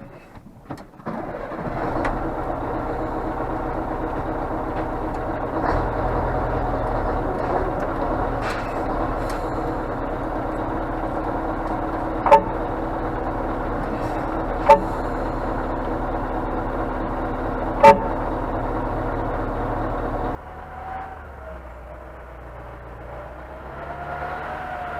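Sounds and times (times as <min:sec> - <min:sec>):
truck diesel engine running: 0:00.0 - 0:24.9.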